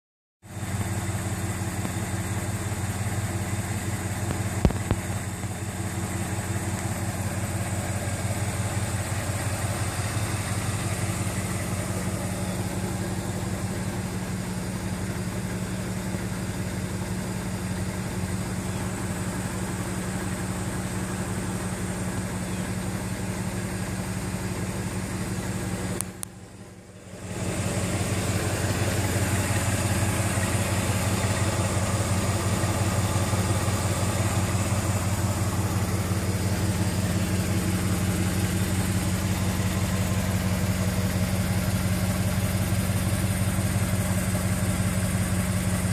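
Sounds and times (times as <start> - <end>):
car engine idling: 0.4 - 45.9.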